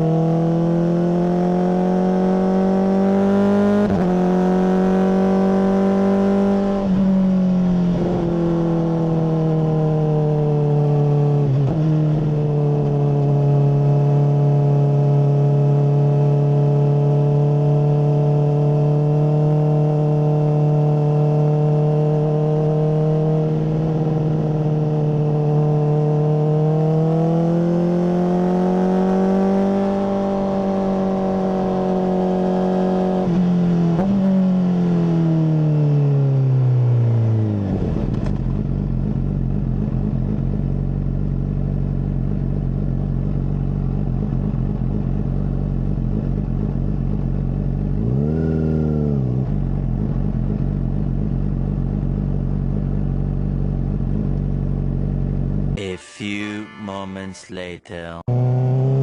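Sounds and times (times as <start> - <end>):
motorcycle engine revving and idling: 0.0 - 55.8.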